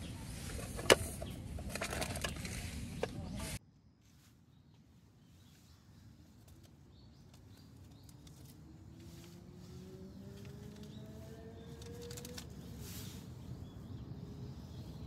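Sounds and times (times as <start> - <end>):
faint bird chirps: 2.4 - 15.0.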